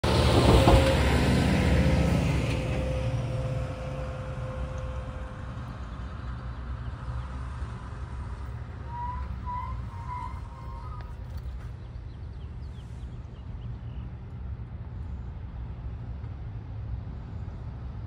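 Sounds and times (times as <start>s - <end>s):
heavy truck driving past: 0.0s - 18.0s
low traffic rumble: 0.0s - 18.0s.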